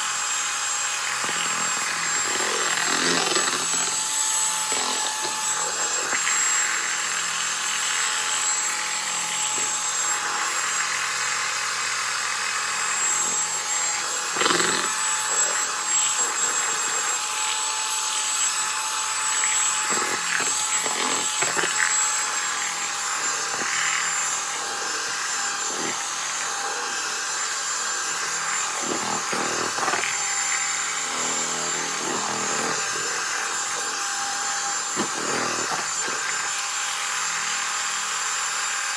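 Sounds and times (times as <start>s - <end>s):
electric hand mixer whine: 0.0s - 38.9s.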